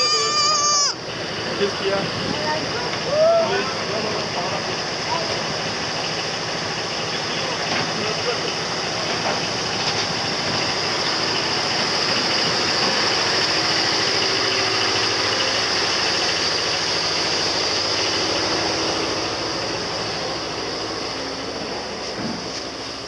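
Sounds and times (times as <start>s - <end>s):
refrigerated lorry humming and hissing: 0.0s - 23.0s.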